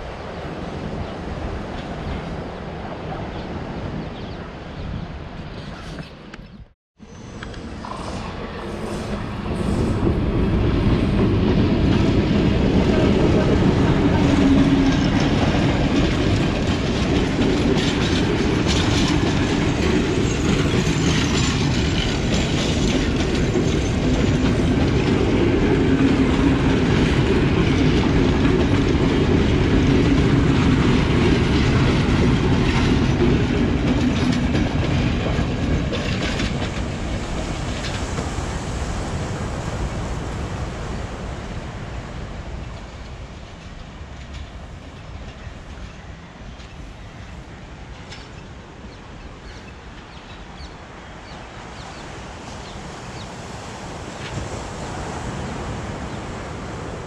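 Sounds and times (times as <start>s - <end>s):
passenger train passing: 0.0s - 6.4s, 7.0s - 57.0s.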